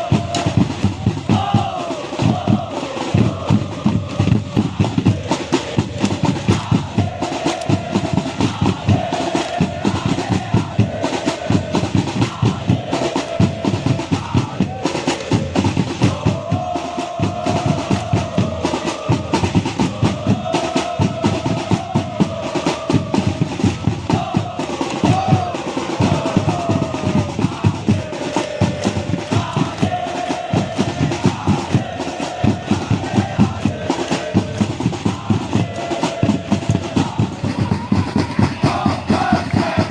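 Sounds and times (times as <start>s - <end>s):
crowd chanting: 0.0s - 39.9s
drums beating fast rhythm: 0.0s - 39.9s.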